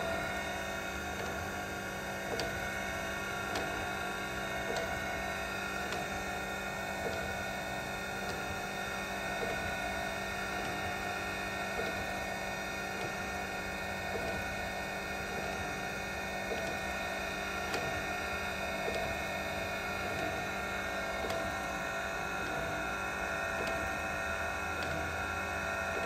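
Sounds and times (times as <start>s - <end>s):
grinder machine hum with whine: 0.0s - 26.0s.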